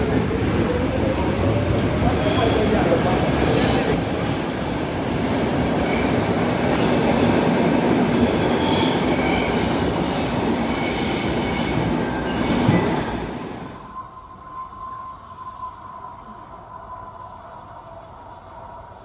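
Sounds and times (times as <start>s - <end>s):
train rumbling on rails: 0.0s - 19.0s
train wheel squeal: 2.0s - 18.4s.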